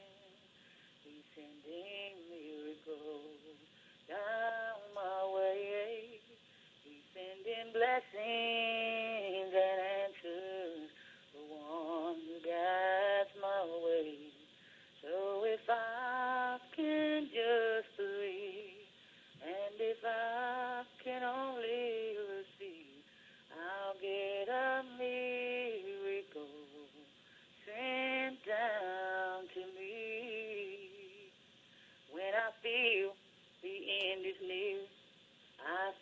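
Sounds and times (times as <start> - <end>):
person singing with vibrato: 0.0 - 31.4, 32.1 - 35.0, 35.6 - 36.0.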